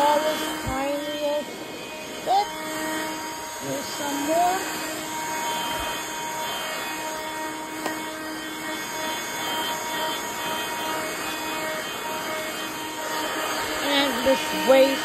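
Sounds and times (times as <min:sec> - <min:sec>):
handheld vacuum cleaner running: 0:00.0 - 0:15.0.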